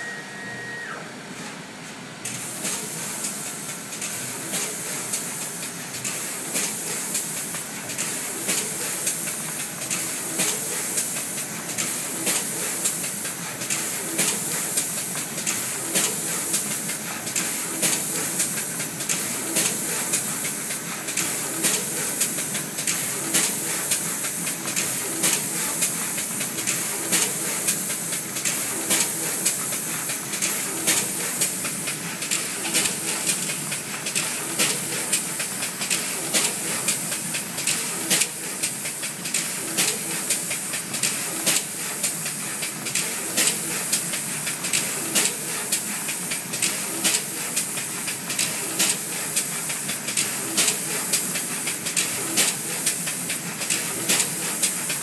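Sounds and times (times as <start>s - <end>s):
machine running with steady hiss: 0.0s - 55.0s
sharp machine clicks: 2.2s - 55.0s.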